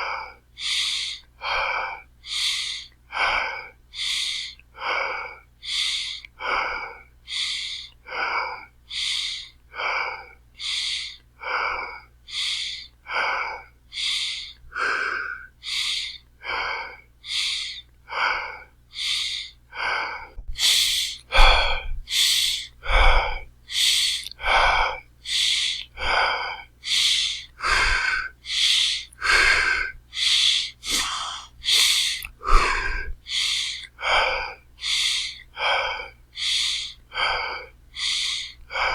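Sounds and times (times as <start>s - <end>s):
heavy fast breathing: 0.0s - 38.9s.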